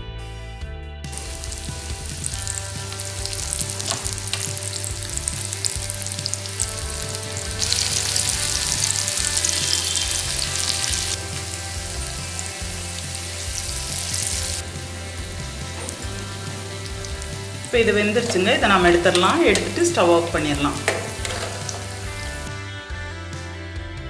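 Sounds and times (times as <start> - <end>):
food deep-frying in oil: 1.1 - 22.6.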